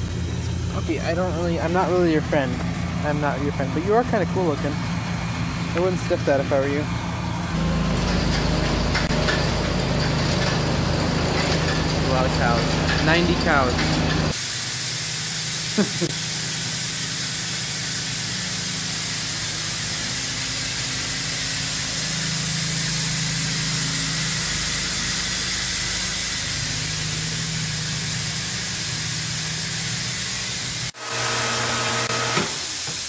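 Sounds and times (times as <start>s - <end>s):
low machine hum: 0.0s - 14.4s, 17.5s - 30.9s
machinery hissing: 0.0s - 33.0s.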